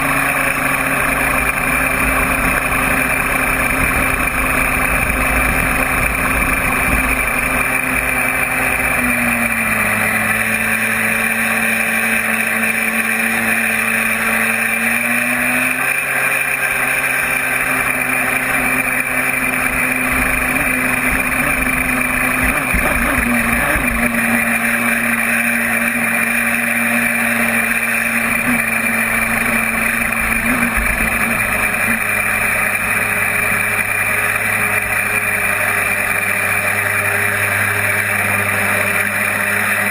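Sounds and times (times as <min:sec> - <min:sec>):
motor whine: 0:00.0 - 0:39.9
water jet rushing: 0:00.7 - 0:39.9.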